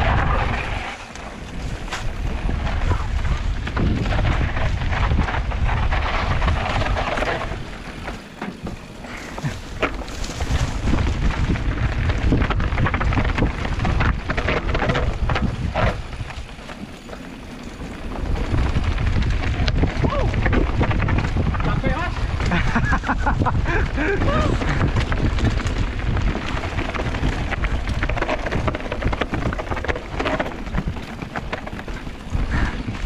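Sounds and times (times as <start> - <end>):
bike knocks and rattles: 0.0 - 33.0
bike tyre noise on trail: 0.0 - 33.0
wind buffeting microphone: 0.0 - 33.0.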